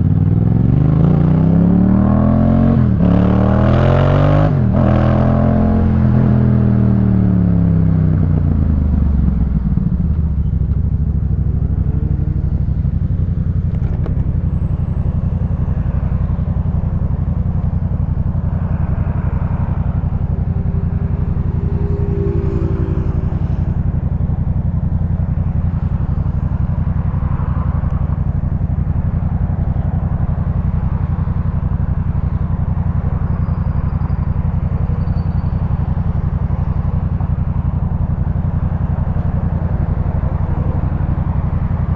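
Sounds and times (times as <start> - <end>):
motorcycle engine idling: 7.1 - 41.9.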